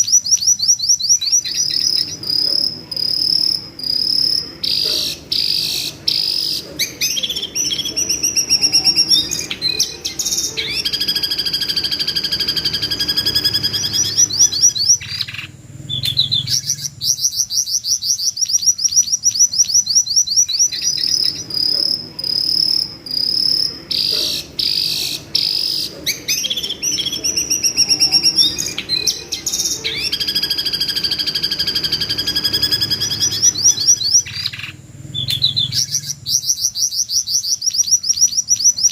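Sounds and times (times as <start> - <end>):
bird calling with shrill trills: 0.0 - 38.9.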